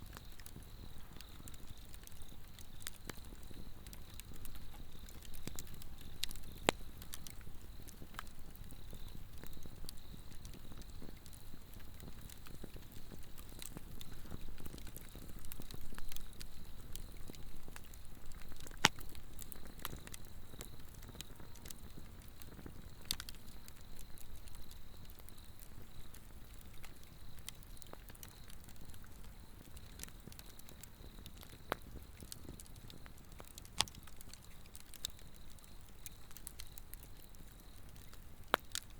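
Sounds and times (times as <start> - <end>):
burning log crackling: 0.0 - 38.9
insects trilling: 0.0 - 38.9.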